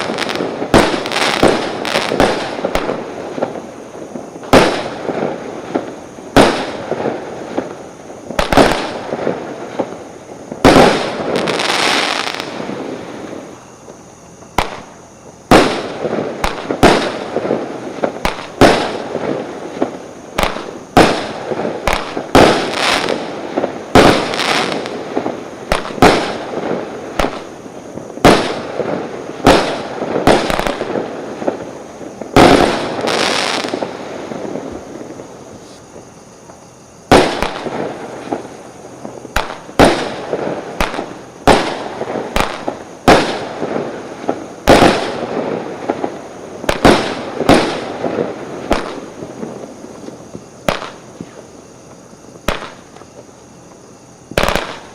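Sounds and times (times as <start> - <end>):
fireworks bangs: 0.0 - 54.9
fireworks crackling: 0.0 - 54.9.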